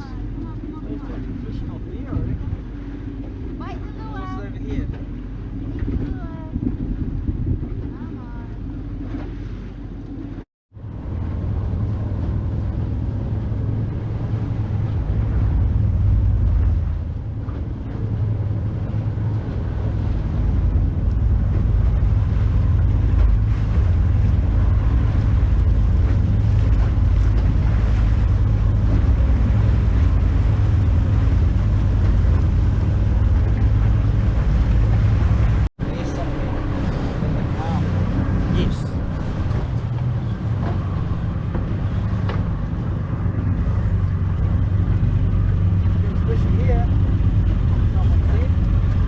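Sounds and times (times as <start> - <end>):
boat engine low rumble: 0.0 - 49.0
water noise: 0.0 - 49.0
wind on microphone: 0.0 - 49.0.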